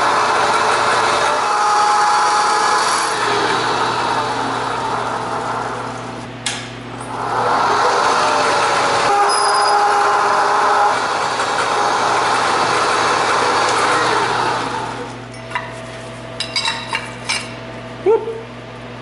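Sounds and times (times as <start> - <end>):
machine motor hum: 0.0 - 15.8.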